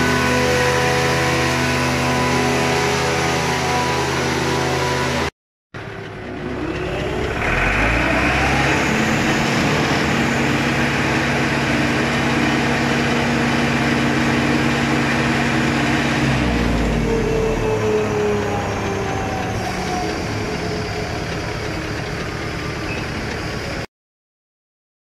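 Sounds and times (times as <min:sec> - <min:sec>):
straw chopper whining: 0:00.0 - 0:23.8.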